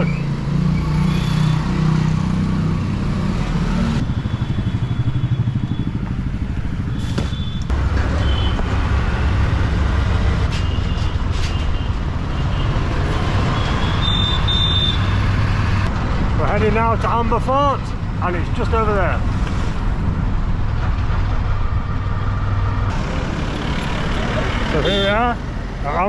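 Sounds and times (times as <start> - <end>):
auto-rickshaw engine rumbling: 0.0 - 26.0.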